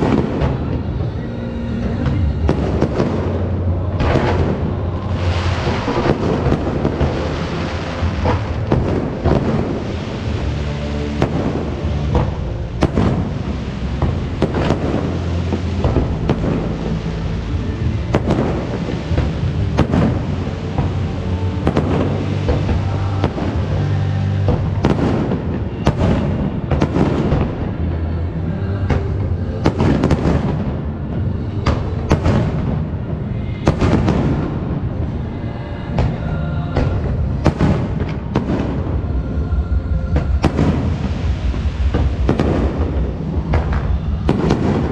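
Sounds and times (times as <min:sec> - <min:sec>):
fireworks bangs and crackles: 0:00.0 - 0:44.9
loud show music: 0:00.0 - 0:44.9.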